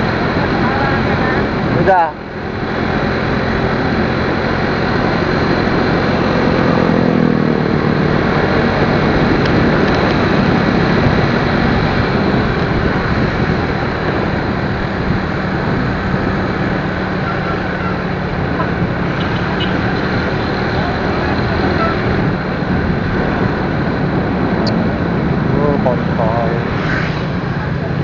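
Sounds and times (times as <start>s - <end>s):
motorcycle engine running: 0.0s - 28.0s
wind noise on microphone: 0.0s - 28.0s.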